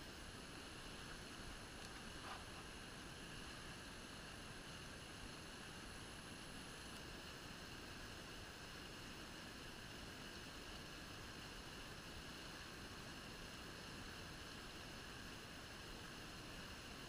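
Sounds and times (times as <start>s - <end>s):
brook flowing: 0.0s - 17.0s.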